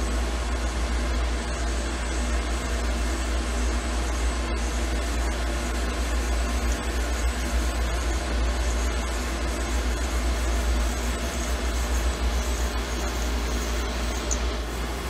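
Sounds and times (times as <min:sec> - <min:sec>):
machine whirring with low rumble: 0:00.0 - 0:15.0.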